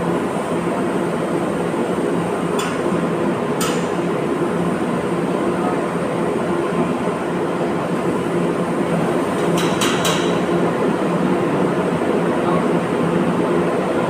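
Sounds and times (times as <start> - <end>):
machine drone with buzzing hum: 0.0 - 14.0.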